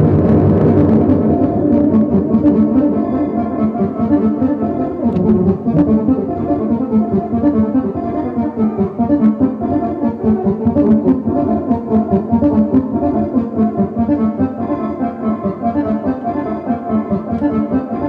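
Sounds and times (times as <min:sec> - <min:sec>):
orchestral brass music with beat: 0:00.7 - 0:18.0.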